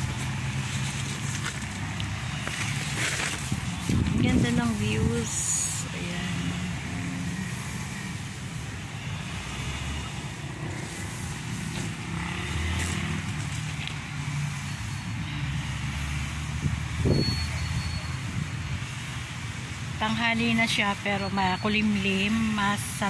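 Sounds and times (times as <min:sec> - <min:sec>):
road traffic engine rumble: 0:00.0 - 0:23.0.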